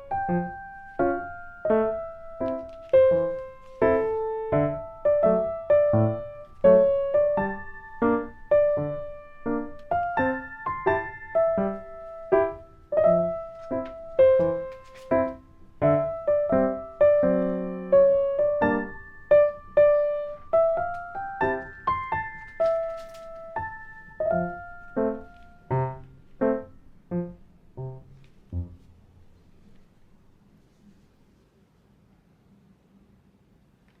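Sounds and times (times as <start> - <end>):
slow piano melody: 0.0 - 30.6.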